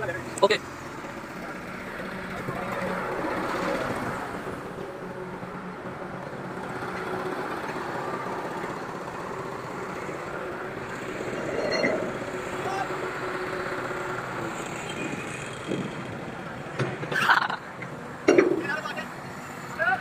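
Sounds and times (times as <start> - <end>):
diesel engine running: 0.0 - 16.8.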